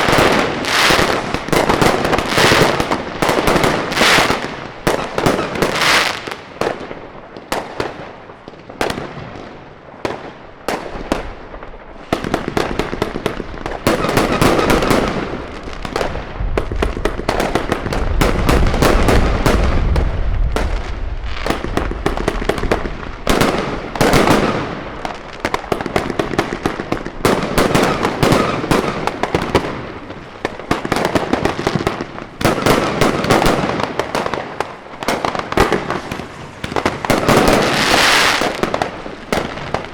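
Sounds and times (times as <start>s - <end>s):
firework bangs and crackling: 0.0s - 39.9s.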